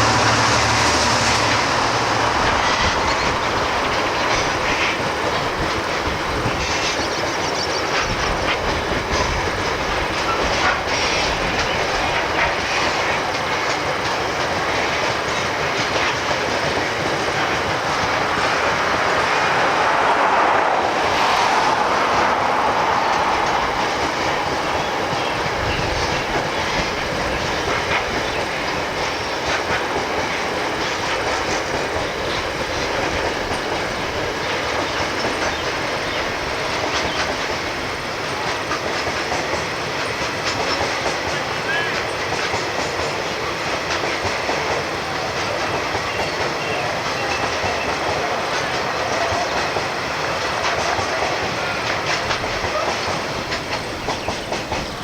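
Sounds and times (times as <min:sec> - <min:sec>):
train wheels rumbling and clicking: 0:00.0 - 0:55.0.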